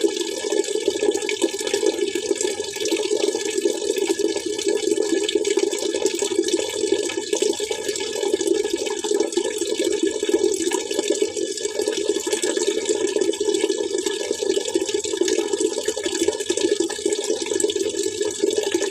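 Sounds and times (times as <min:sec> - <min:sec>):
water splashing and trickling: 0:00.0 - 0:18.9.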